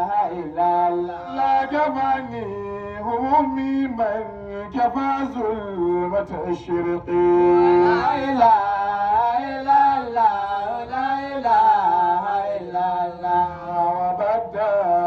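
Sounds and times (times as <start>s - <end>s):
man chanting solo: 0.0s - 15.0s.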